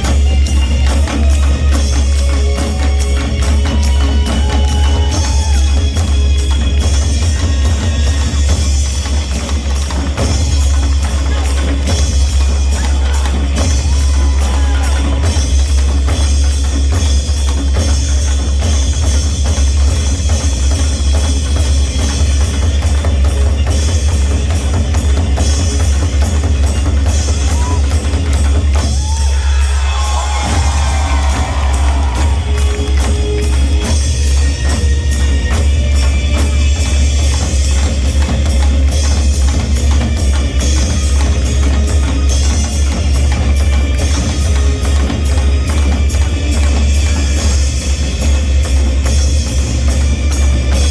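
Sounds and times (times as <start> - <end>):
drums in fast dense rhythm: 0.0 - 50.9.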